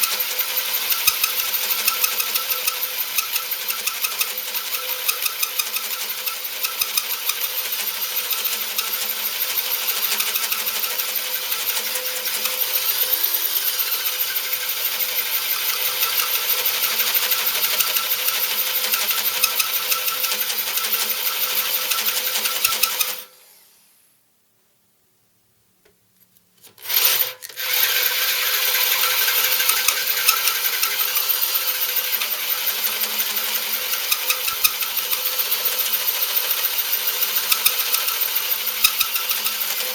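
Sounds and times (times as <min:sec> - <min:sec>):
hole saw grinding chatter: 0:00.0 - 0:23.7, 0:26.7 - 0:39.9.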